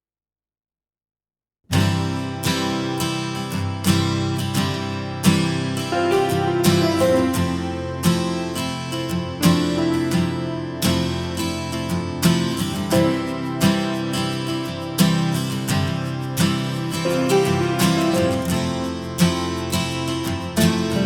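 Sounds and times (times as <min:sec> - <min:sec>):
strummed acoustic guitar: 0:01.7 - 0:21.0.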